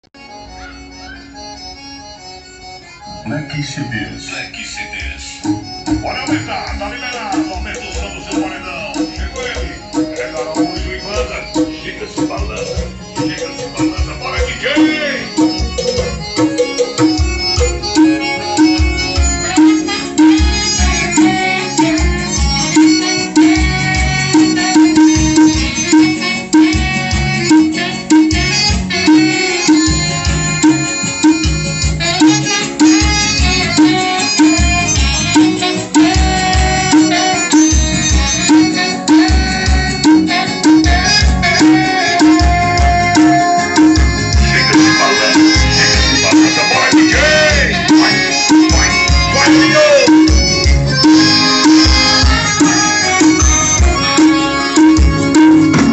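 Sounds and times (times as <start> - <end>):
percussion: 5.3 - 55.9
music with heavy bass beat: 5.4 - 55.9.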